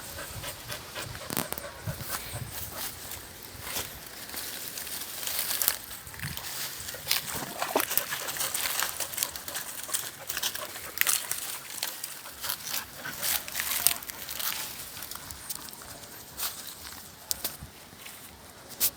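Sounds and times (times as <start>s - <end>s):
dry leaves crunching underfoot: 1.3s - 18.9s.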